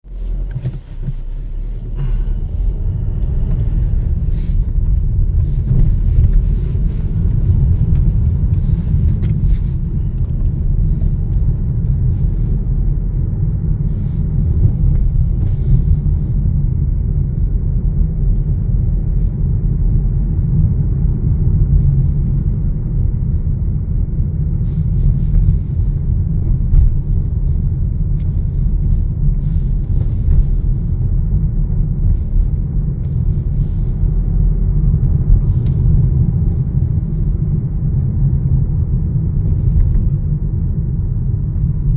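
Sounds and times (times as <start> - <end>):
vehicle rumbling from inside: 0.0 - 41.9.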